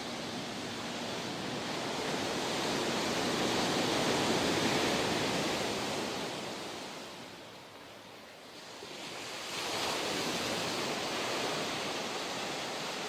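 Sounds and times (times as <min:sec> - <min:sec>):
ocean wave rushing in: 0:00.0 - 0:07.5, 0:08.6 - 0:13.0.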